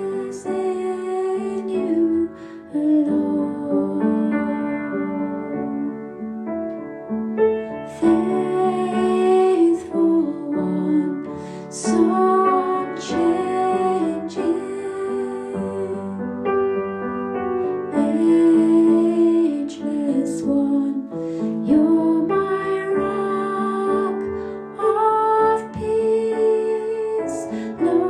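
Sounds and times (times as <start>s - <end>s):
piano accompaniment: 0.0s - 28.0s.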